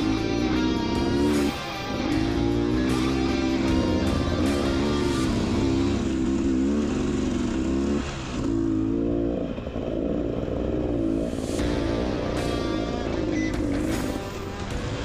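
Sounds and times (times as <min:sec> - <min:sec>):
two-stroke dirt bike engine revving: 0:00.0 - 0:15.0.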